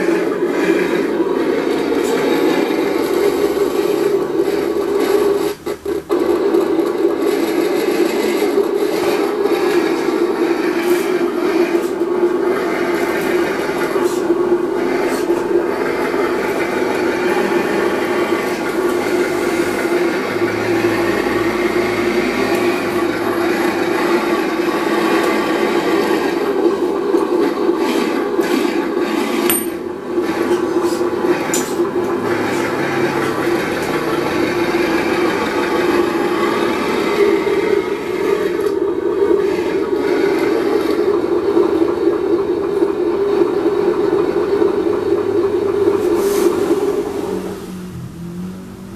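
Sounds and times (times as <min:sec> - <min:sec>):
simulated engine sound from speaker: 0:00.0 - 0:48.9.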